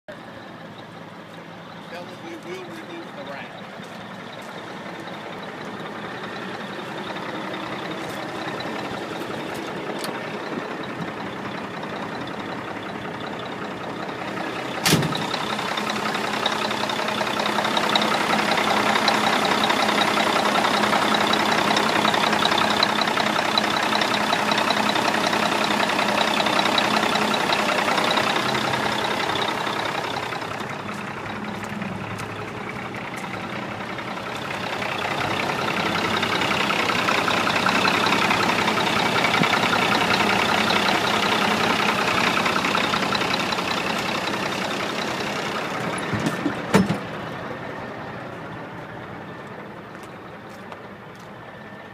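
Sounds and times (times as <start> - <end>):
diesel truck engine idling: 0.1 - 51.9.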